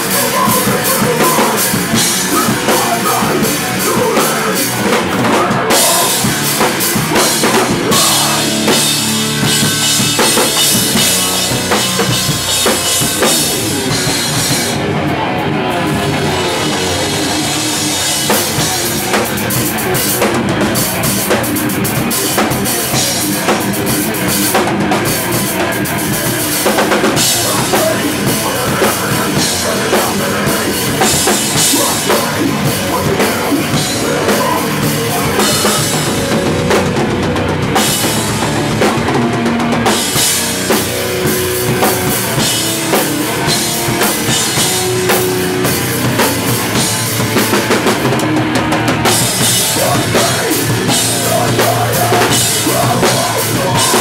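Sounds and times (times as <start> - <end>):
pounding drum kit: 0.0 - 54.0
punk band playing loud: 0.0 - 54.0.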